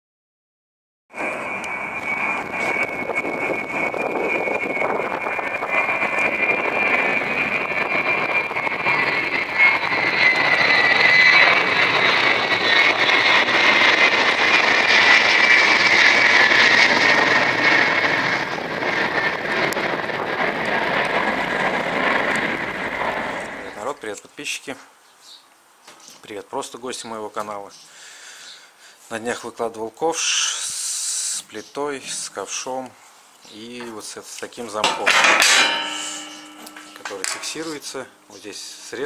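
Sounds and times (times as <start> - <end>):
high jet engine whine: 1.1 - 24.0, 30.1 - 39.0
jet aircraft roar overhead: 1.1 - 24.0, 30.1 - 39.0.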